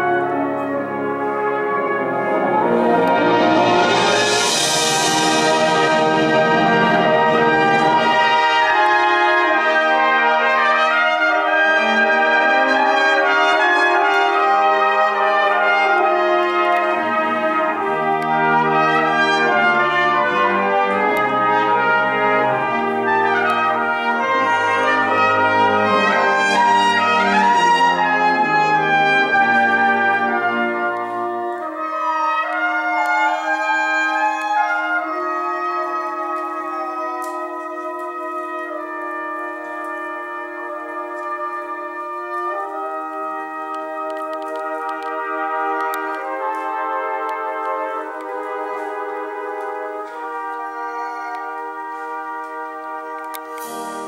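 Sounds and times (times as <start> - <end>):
brass band playing: 0.0 - 54.0
solo cornet melody: 0.0 - 54.0.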